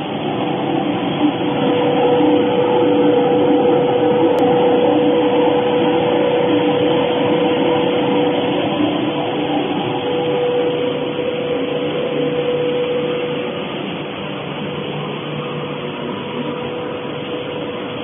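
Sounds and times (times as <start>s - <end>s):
machine drone and hum: 0.0s - 18.0s.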